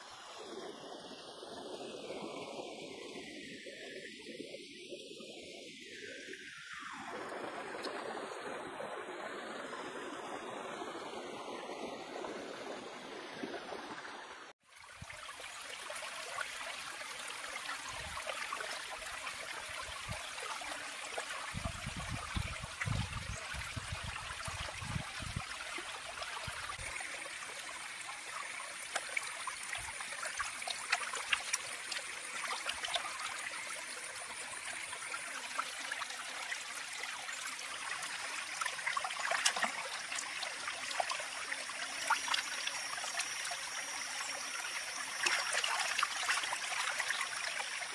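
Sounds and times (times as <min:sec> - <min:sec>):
stream water running over rocks: 0:06.2 - 0:47.9.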